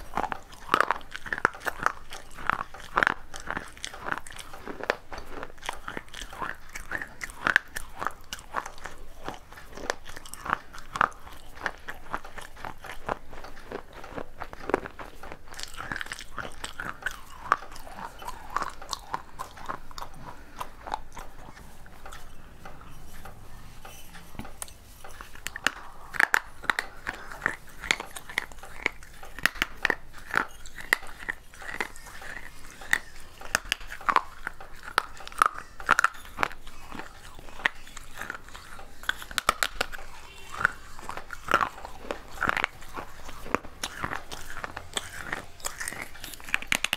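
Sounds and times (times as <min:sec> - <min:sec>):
crunching and chewing clay: 0:00.0 - 0:46.9.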